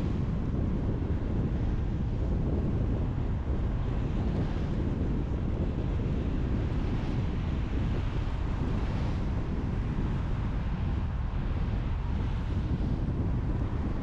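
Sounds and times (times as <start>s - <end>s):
tyre and wind rumble: 0.0s - 14.0s.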